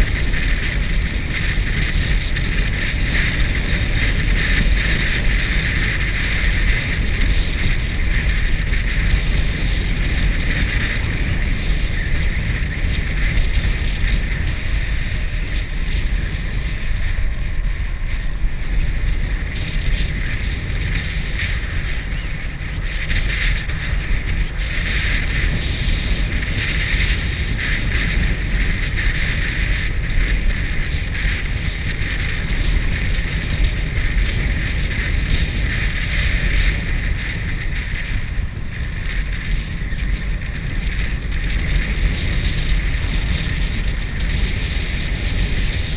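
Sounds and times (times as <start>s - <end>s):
low rumble: 0.0s - 45.9s
wind rushing on microphone: 0.0s - 45.9s.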